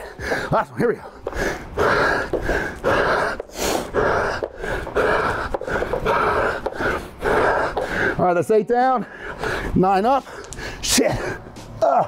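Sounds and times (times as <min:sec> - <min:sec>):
man panting: 0:00.0 - 0:12.0.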